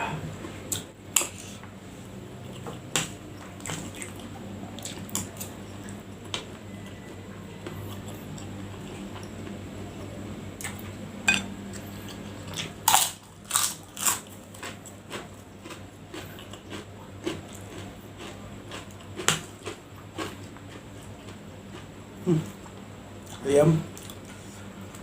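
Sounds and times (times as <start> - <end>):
person chewing food: 0.4 - 25.0.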